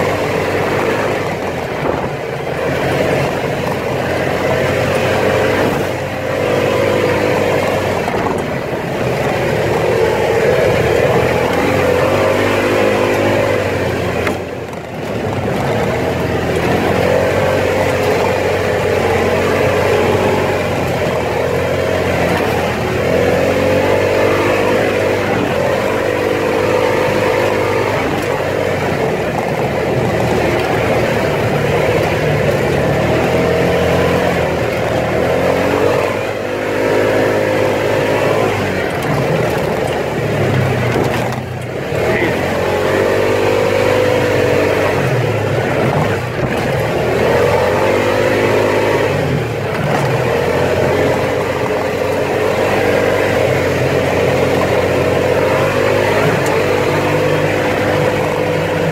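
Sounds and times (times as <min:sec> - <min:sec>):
off-road vehicle engine revving: 0:00.0 - 0:58.9.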